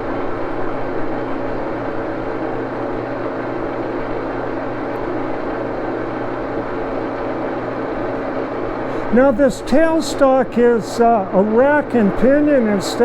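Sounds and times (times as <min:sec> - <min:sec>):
lathe mechanical hum: 0:00.0 - 0:13.0
whining drive tones: 0:00.0 - 0:13.0.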